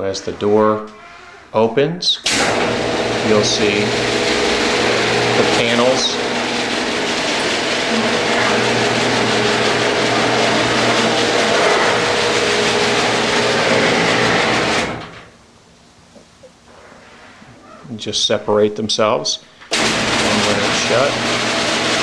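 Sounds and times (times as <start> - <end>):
door rumbling along tracks: 0.0 - 15.5, 19.6 - 22.0
garage door opener motor hum: 0.0 - 15.5, 19.5 - 22.0.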